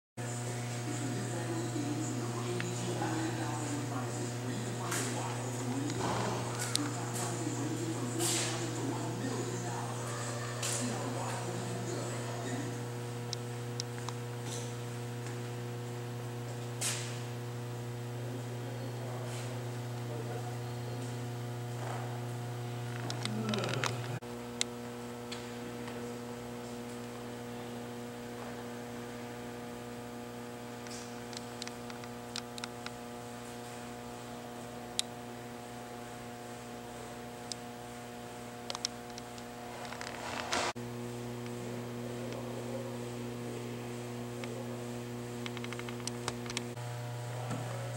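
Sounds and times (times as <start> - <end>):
electrical mains hum: 0.2 - 47.9.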